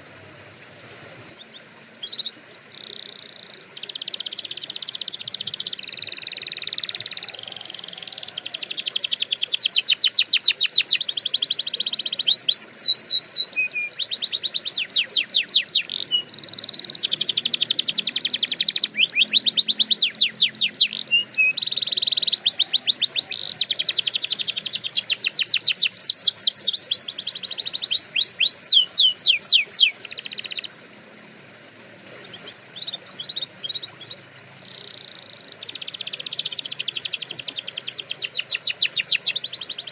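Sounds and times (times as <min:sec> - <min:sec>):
canary singing: 0:01.5 - 0:31.1, 0:32.3 - 0:39.9.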